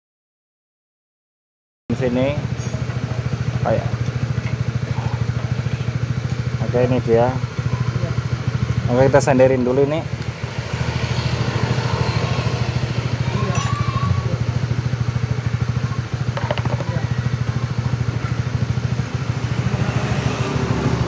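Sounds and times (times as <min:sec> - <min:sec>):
motorcycle engine idling: 0:01.9 - 0:21.0.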